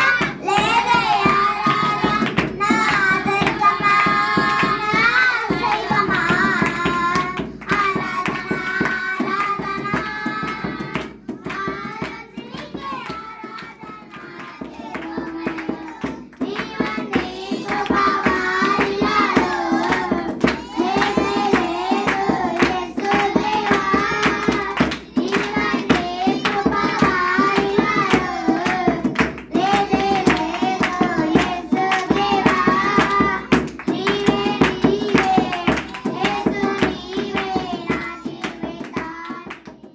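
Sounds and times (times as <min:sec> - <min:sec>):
children singing: 0:00.0 - 0:39.9
hand clapping: 0:00.0 - 0:39.9
hand drum beats: 0:00.0 - 0:39.9.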